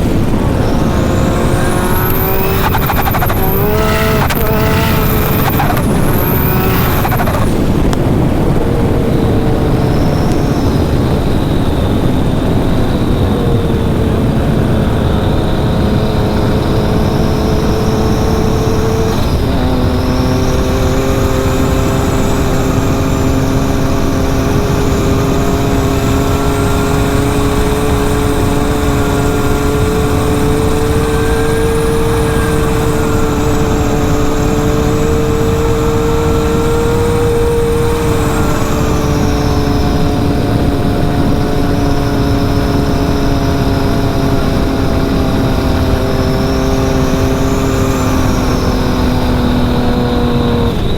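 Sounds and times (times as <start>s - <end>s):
engine low rumble: 0.0s - 50.9s.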